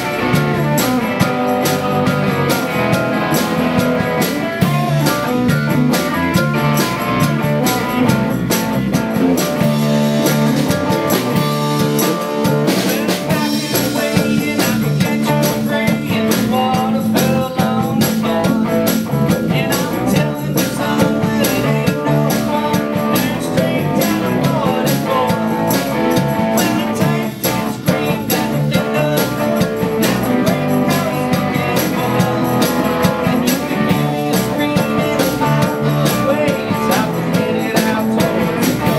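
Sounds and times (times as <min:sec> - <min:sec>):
man singing: 0:00.0 - 0:08.6, 0:09.3 - 0:38.9
acoustic guitar: 0:00.0 - 0:38.9
drum kit: 0:00.0 - 0:38.9
electric bass: 0:00.0 - 0:38.9
electric guitar: 0:00.0 - 0:38.9.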